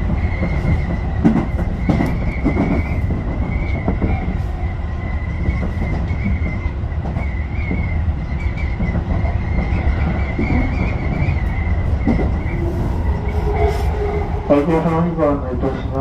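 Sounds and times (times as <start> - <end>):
rail-joint clicks: 0.0 - 4.5, 5.1 - 16.0
train wheels rumbling on rails: 0.0 - 16.0.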